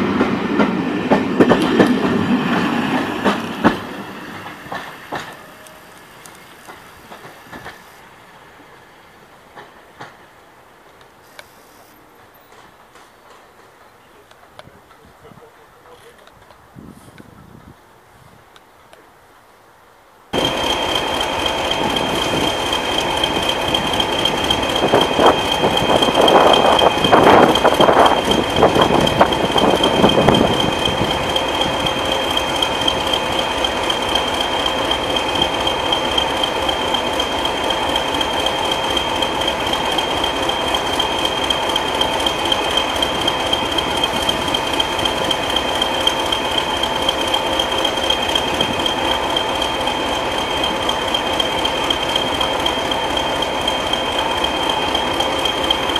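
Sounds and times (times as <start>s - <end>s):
diesel locomotive idling: 0.0s - 16.4s, 20.3s - 55.9s.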